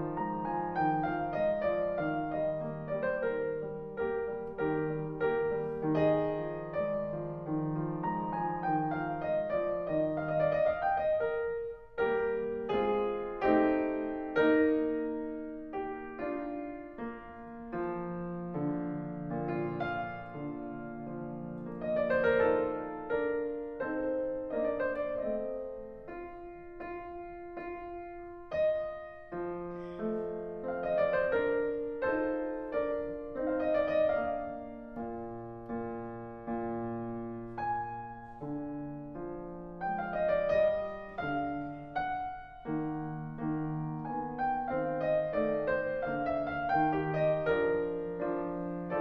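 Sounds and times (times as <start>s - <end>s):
slow piano music: 0.0s - 49.0s.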